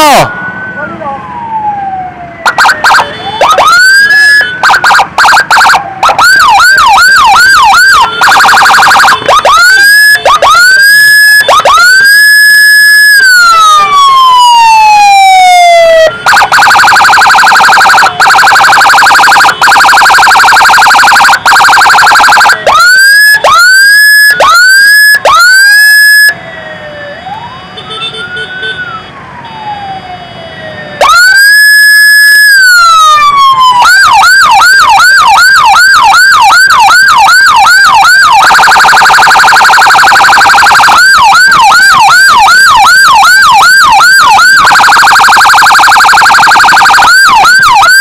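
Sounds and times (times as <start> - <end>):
electronic emergency siren: 0.0 - 48.0.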